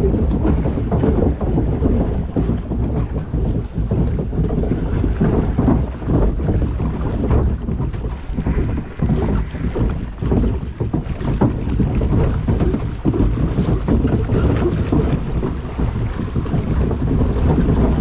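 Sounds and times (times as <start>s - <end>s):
water rushing and splashing: 0.0s - 18.0s
wind buffeting microphone: 0.0s - 18.0s.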